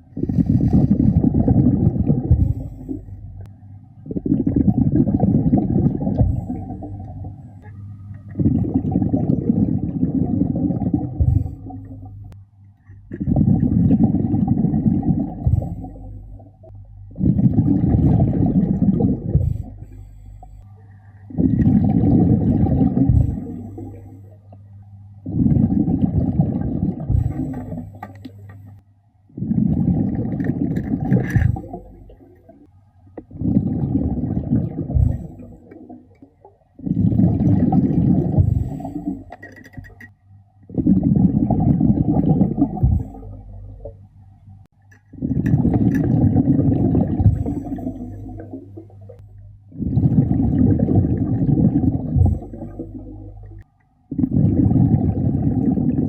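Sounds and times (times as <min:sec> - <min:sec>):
diver's regulator bubbles gurgling: 0:00.0 - 0:56.0.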